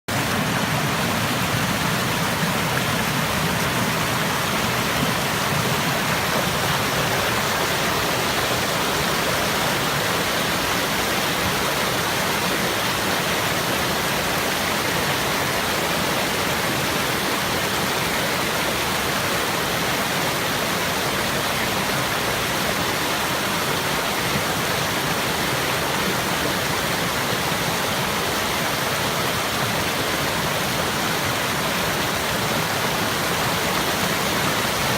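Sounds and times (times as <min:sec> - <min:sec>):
stream water running: 0:00.1 - 0:34.9.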